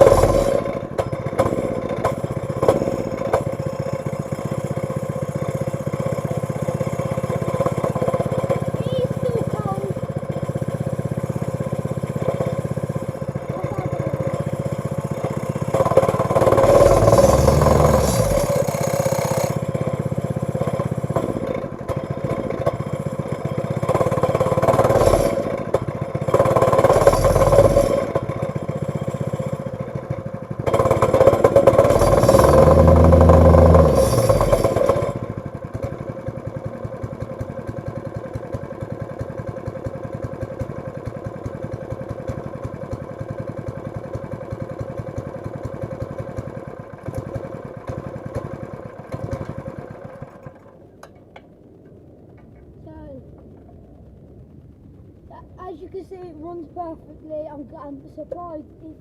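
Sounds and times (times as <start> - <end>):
chainsaw idling and revving: 0.0 - 51.8.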